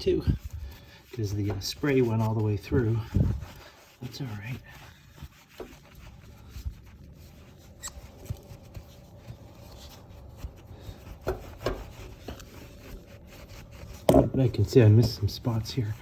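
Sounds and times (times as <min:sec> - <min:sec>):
rubbing on metal wheel rim: 0:00.0 - 0:16.0.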